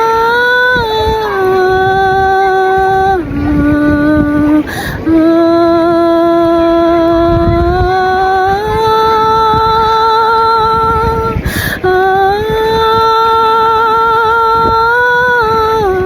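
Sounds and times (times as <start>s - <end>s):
woman singing wordless held notes: 0.0s - 16.0s.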